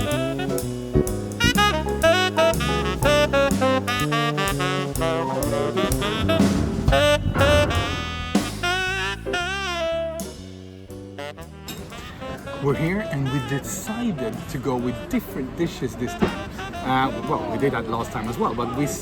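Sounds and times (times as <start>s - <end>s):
jazz saxophone with bass and drums: 0.0s - 18.3s.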